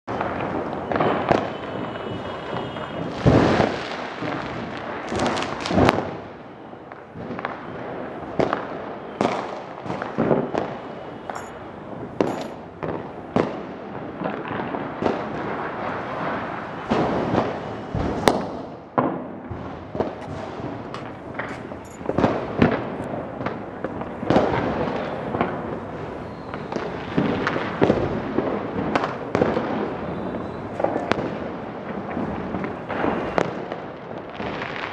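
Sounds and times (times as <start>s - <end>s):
firecrackers crackling: 0.1s - 34.9s
loud sharp firework reports: 0.1s - 34.9s.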